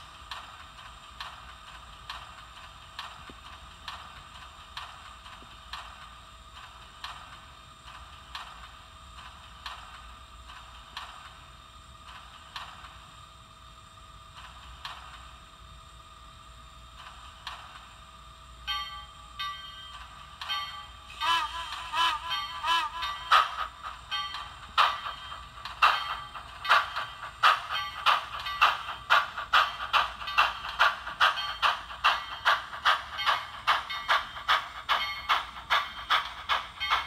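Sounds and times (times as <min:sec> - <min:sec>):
model steam locomotive whine and hiss: 0:00.0 - 0:37.0.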